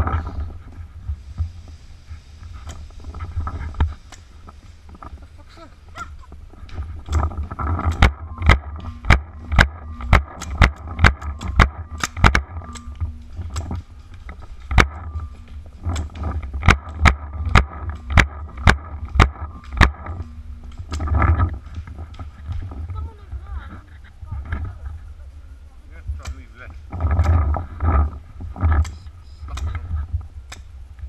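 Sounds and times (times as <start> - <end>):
low rumble: 0.0 - 31.0.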